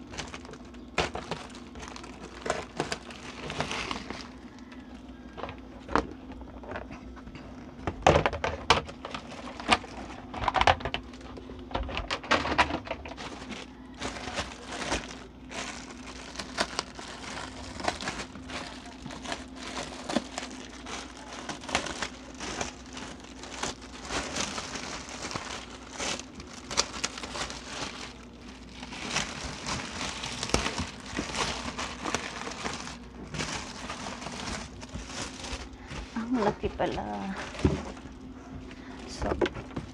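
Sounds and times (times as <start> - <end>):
plastic wrapping crinkling: 0.0 - 39.9.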